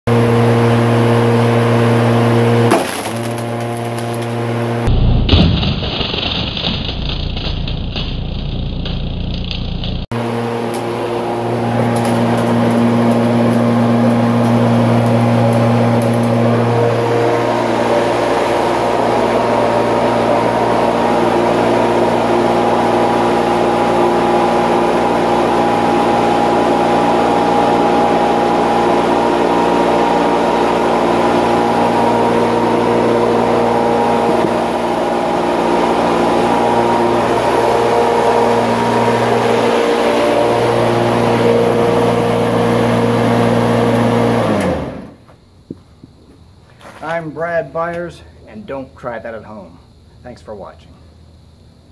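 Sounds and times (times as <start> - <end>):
electric lawnmower whining: 0.1 - 4.9, 8.2 - 45.4.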